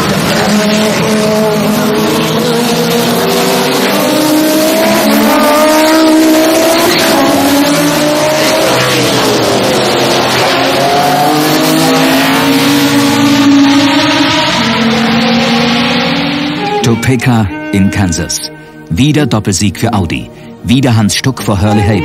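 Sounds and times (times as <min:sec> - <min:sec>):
race car engines revving: 0:00.0 - 0:18.9.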